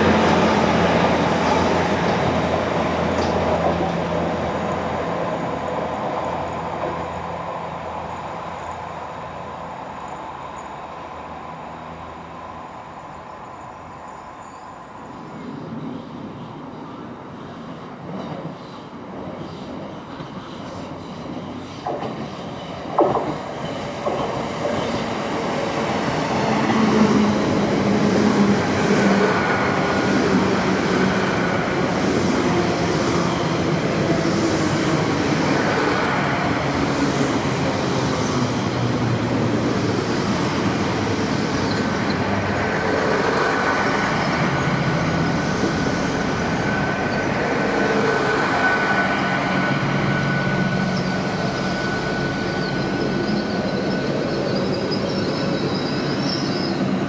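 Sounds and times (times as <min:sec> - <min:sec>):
train wheels and engines rumbling: 0:00.0 - 0:57.0.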